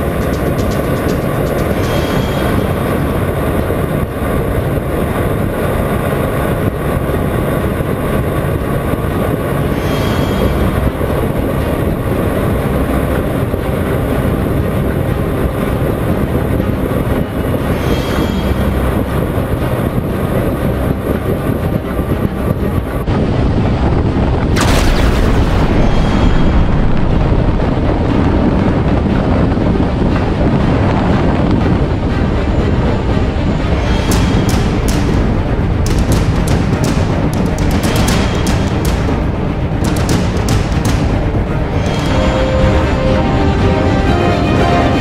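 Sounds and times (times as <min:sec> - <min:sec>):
wind rushing over camera: 0:00.0 - 0:17.8, 0:18.6 - 0:42.0.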